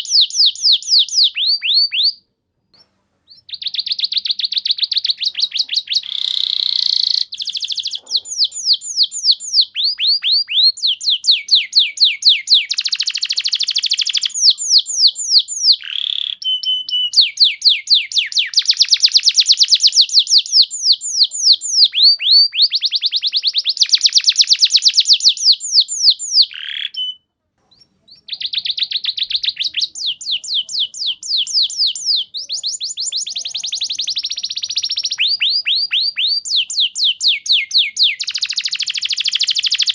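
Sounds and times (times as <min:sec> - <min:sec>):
canary singing trills: 0:00.0 - 0:02.2, 0:02.8 - 0:39.9.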